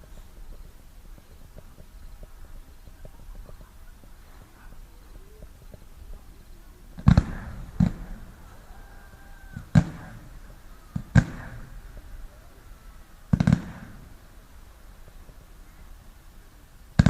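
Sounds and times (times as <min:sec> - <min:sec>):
fireworks bangs with rumble: 0:00.0 - 0:17.0.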